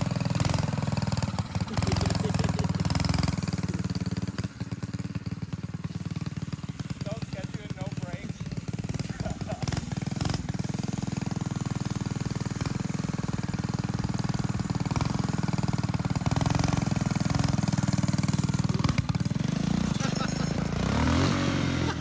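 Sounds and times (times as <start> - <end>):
mini bike engine running: 0.0 - 22.0.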